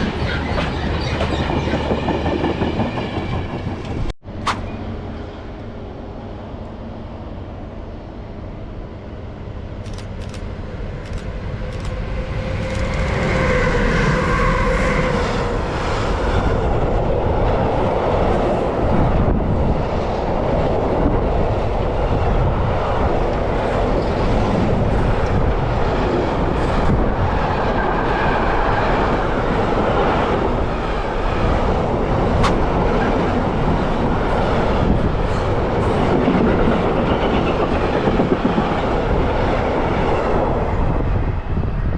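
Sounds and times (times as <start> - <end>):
train passing rumble: 0.0 - 41.9.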